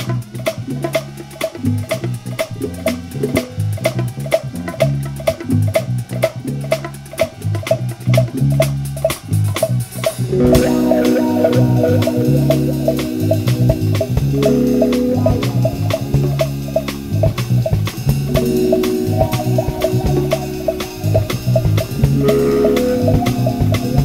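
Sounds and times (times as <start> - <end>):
funk band playing: 0.0 - 24.0.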